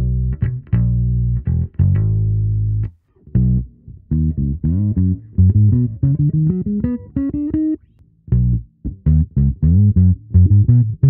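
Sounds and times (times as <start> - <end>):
electric bass plucked notes: 0.0 - 11.0.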